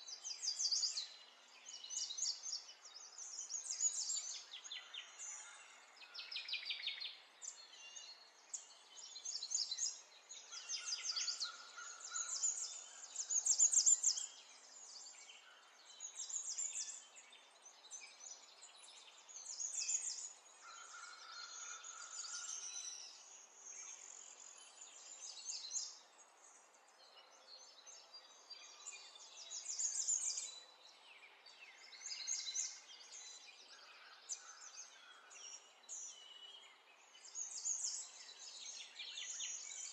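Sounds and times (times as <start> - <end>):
faint outdoor hiss: 0.0 - 39.9
small birds chirping: 0.0 - 39.9.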